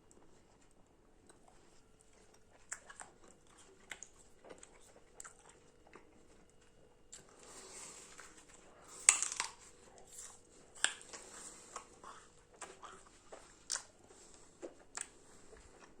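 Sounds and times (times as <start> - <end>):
soft chewing: 0.0 - 16.0
apple crunching: 2.1 - 16.0.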